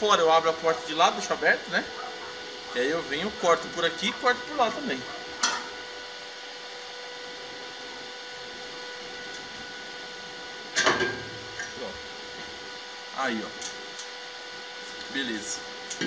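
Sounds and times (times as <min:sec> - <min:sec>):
machine hum with whining tones: 0:00.0 - 0:16.0.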